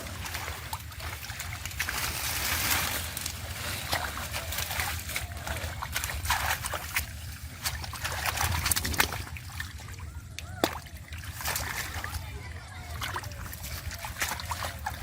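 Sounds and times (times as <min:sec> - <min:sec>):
river water sloshing and splashing: 0:00.0 - 0:15.0
steady low hum: 0:00.0 - 0:15.0.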